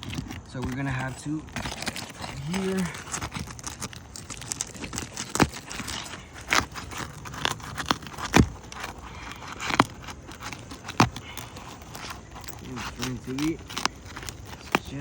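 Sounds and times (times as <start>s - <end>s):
tool scraping under roof shingles: 0.0s - 15.0s.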